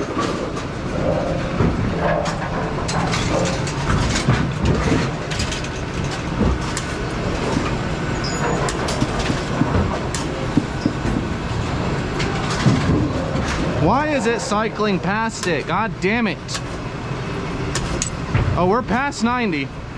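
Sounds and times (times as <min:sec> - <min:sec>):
bowling pinsetter clattering: 0:00.0 - 0:16.7.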